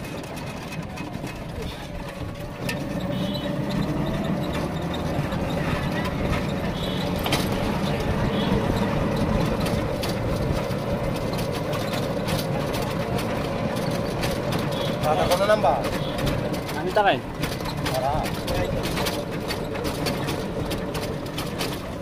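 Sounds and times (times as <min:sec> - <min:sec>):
rattles and knocks: 0:00.0 - 0:22.0
vehicle running on road: 0:00.0 - 0:22.0.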